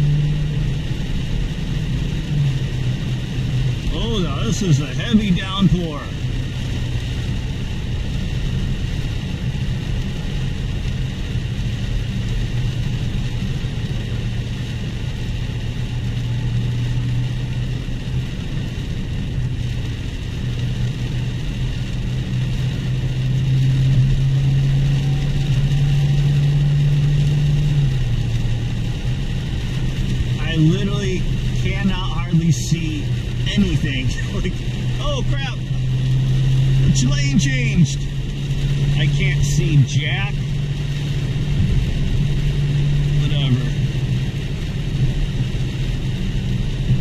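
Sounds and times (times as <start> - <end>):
car engine droning: 0.0 - 47.0
heavy rain hiss: 0.0 - 47.0
wet road noise: 0.0 - 47.0.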